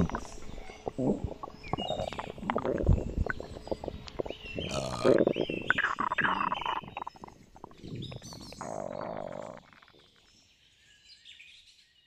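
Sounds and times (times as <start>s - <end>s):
deep creature belch: 0.0s - 10.1s
birds chirping: 0.0s - 12.0s.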